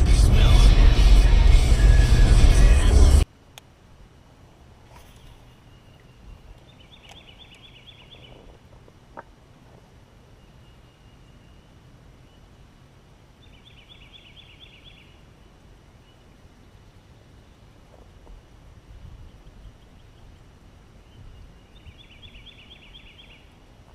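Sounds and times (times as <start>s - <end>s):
low steady rumble: 0.0s - 23.9s.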